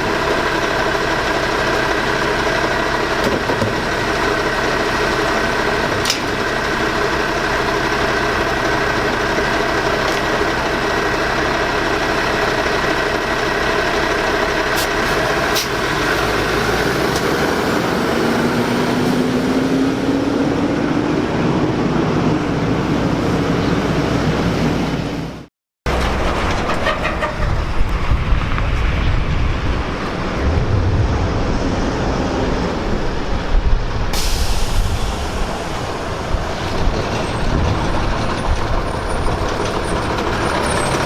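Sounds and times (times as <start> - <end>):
garbage truck engine running: 0.0 - 24.5, 25.9 - 41.0.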